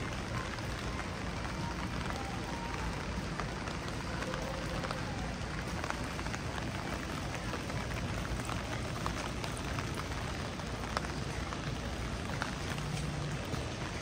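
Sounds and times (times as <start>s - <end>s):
steady rain on wet street: 0.0s - 14.0s.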